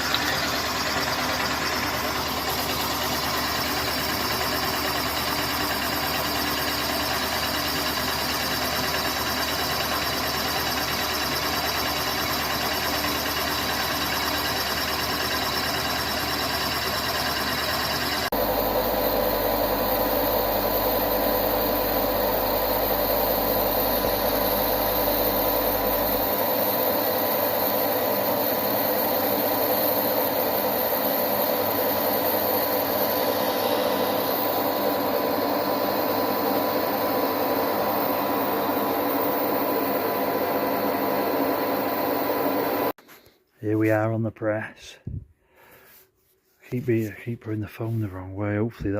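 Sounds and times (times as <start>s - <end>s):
machine tool running with whine: 0.0s - 43.0s.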